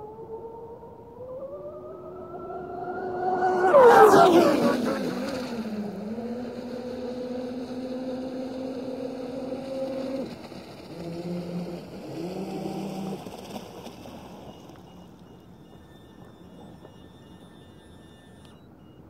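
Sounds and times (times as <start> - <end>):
model boat motor running: 0.0 - 19.0.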